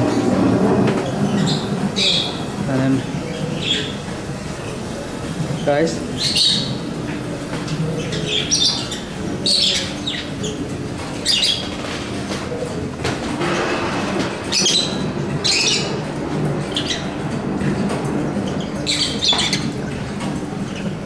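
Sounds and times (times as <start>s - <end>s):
birds squawking and chirping: 0.0s - 21.0s.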